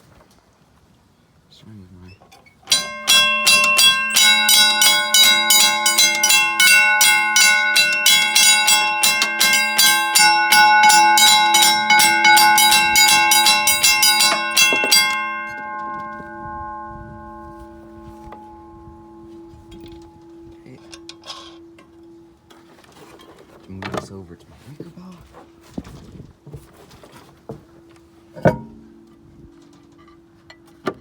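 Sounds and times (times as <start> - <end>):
railroad crossing bells ringing: 2.6 - 26.0, 27.5 - 31.0.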